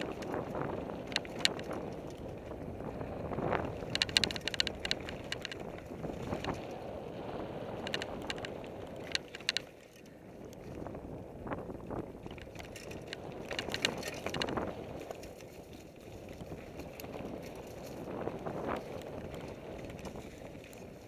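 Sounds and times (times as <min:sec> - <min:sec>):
bike rattling and clicking over bumps: 0:00.0 - 0:21.0
bike tyres rolling over dirt trail: 0:00.0 - 0:21.0.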